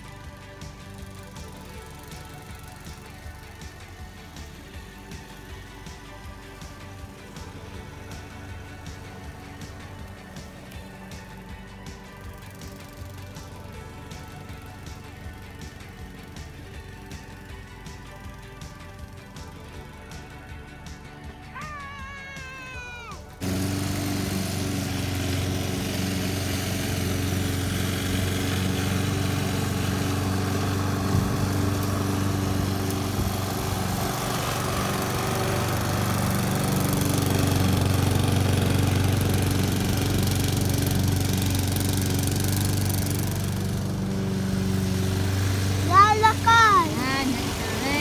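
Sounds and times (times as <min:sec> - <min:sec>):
lawn mower engine running: 0:00.0 - 0:48.0.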